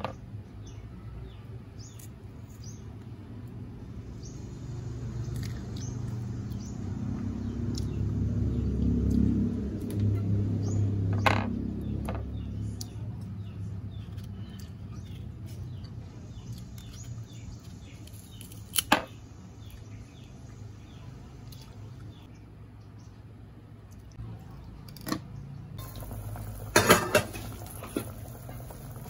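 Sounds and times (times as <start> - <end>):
small birds chirping: 0.1 - 29.0
low vehicle rumble: 3.1 - 18.4, 19.4 - 29.0.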